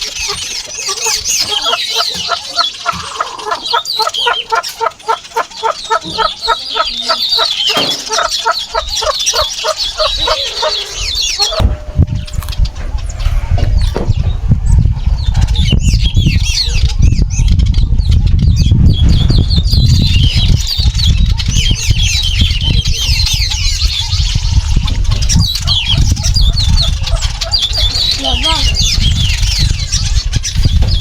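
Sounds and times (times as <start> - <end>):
small birds chirping: 0.0 - 31.0
wind buffeting microphone: 0.0 - 31.0.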